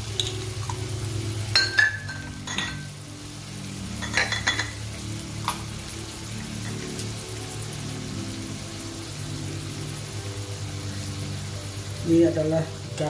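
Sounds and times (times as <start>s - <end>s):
background music: 0.0s - 13.0s
faint sizzling: 0.0s - 13.0s.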